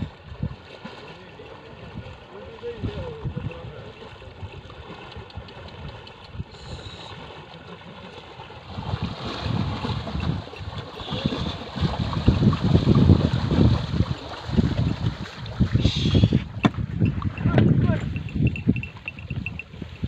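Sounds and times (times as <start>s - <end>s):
water sloshing and splashing: 0.0s - 20.0s
wind buffeting microphone: 1.8s - 6.8s, 8.6s - 20.0s.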